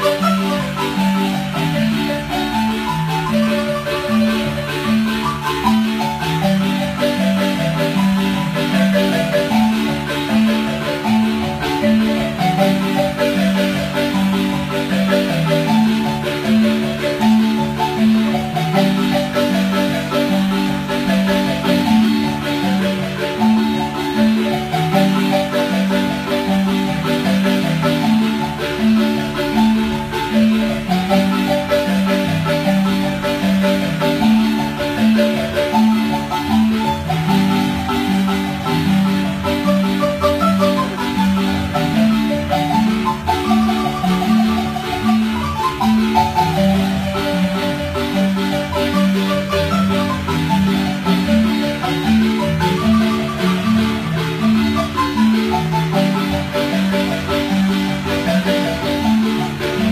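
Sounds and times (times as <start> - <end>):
marimba playing a dance tune: 0.0 - 59.9.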